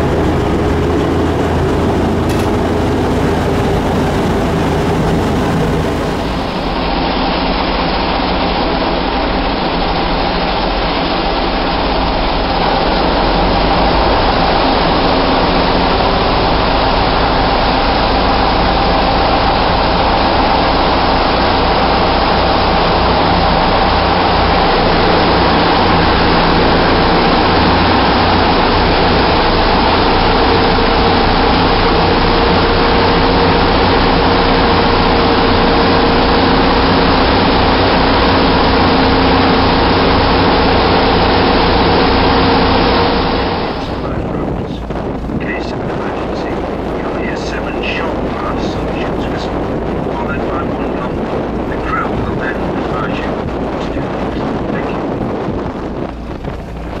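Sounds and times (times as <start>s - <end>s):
ferry diesel engine running: 0.0s - 57.0s.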